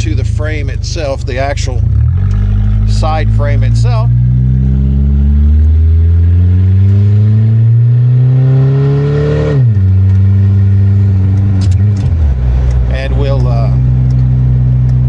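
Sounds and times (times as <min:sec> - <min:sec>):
three-wheeler engine revving: 0:00.0 - 0:15.0.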